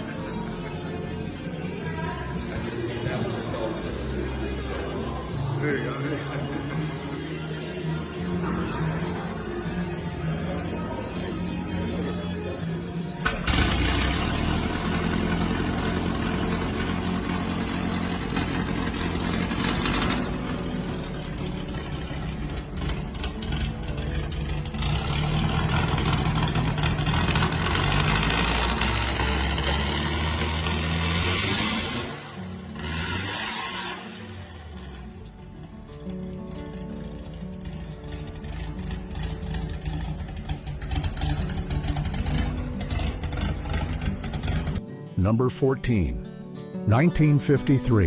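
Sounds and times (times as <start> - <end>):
car engine starting and revving: 0.0 - 10.2, 12.9 - 44.8.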